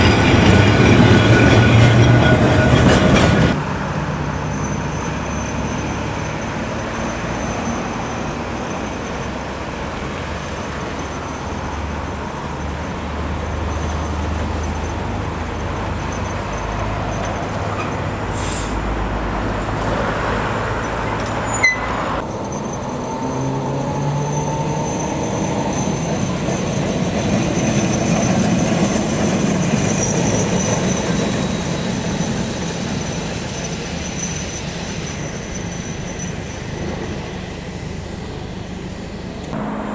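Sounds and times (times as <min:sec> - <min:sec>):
tram motor whine rising: 0:00.0 - 0:39.9
tram rumble and wheel noise: 0:00.0 - 0:39.9.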